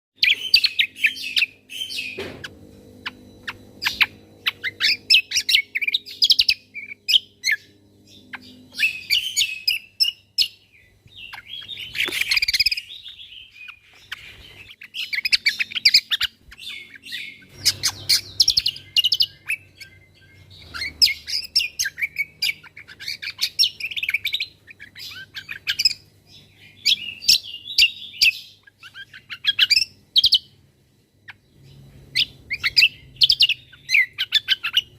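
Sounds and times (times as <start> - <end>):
songbird chirps and trills: 0.2 - 34.9.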